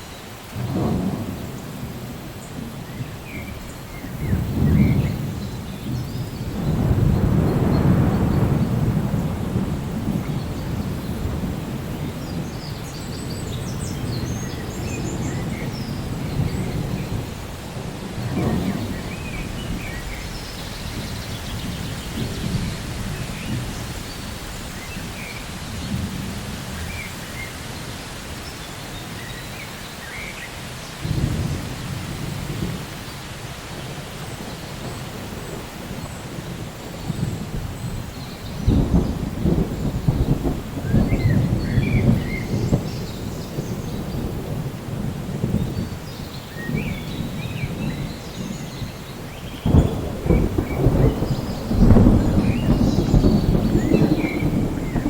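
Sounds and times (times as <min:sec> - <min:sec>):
steady rain: 0:00.0 - 0:55.0
rolling thunder: 0:00.5 - 0:27.6, 0:30.9 - 0:55.0.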